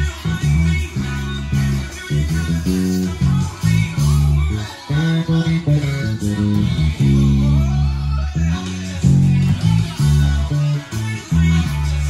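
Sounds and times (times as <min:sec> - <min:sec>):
electric bass guitar fingerstyle: 0:00.0 - 0:12.0.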